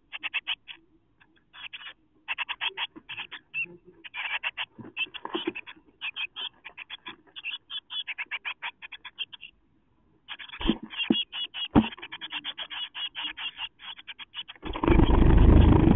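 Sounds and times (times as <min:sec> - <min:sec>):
nestlings chirping: 0:00.0 - 0:09.6, 0:10.2 - 0:15.9.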